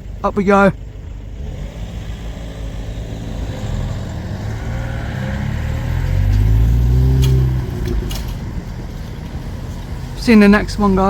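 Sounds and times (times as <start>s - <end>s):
car engines pulling away: 0.0s - 11.0s.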